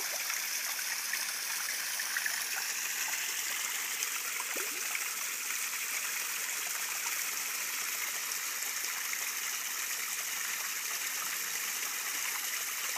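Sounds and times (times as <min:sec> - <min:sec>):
water splashing and trickling: 0:00.0 - 0:12.9.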